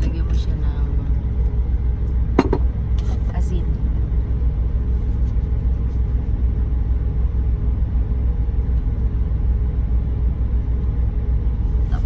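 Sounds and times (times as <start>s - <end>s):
truck engine rumble in cab: 0.0s - 12.0s.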